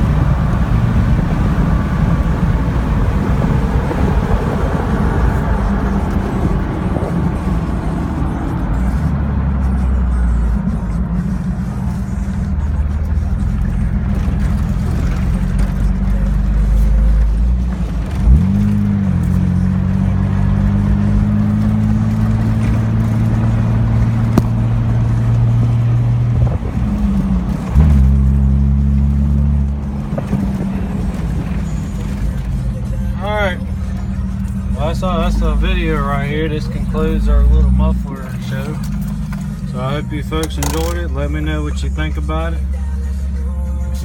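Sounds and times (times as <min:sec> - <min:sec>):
car engine deep exhaust note: 0:00.0 - 0:43.8.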